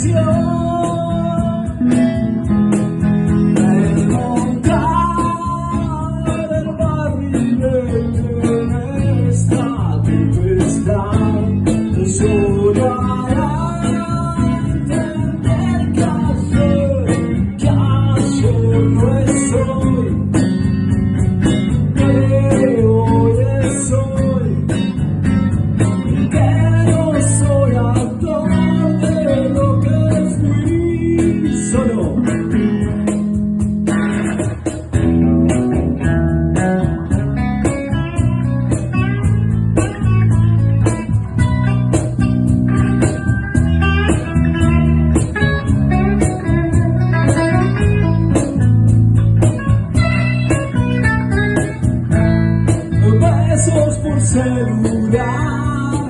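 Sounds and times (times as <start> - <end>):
band music with guitars and bass: 0.0 - 56.0.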